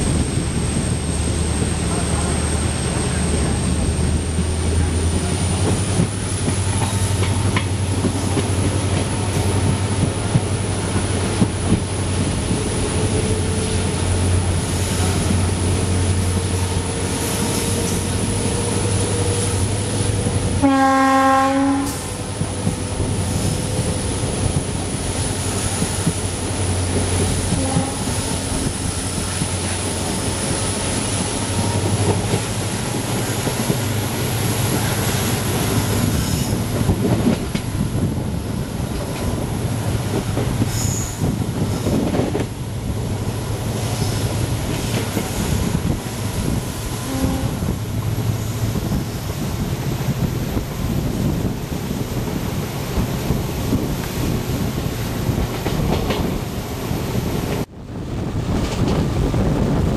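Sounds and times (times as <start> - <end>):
rumble of train wheels on track: 0.0 - 59.9.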